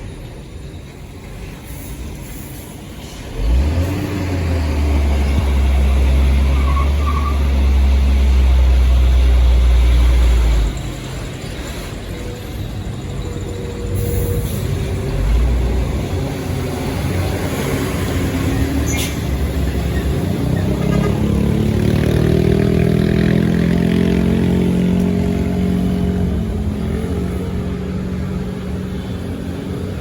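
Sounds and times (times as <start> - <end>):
traffic rumble: 0.0 - 30.0
truck diesel engine labouring: 0.0 - 30.0.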